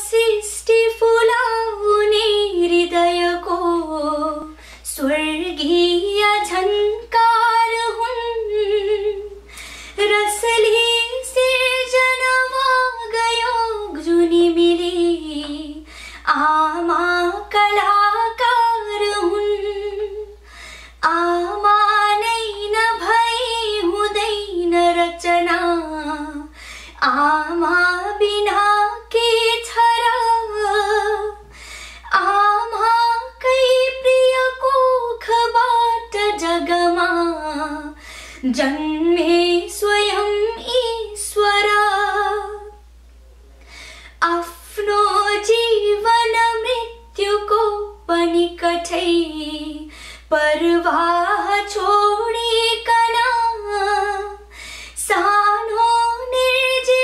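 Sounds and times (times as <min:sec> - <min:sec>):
woman singing: 0:00.0 - 0:42.8, 0:44.2 - 0:57.0.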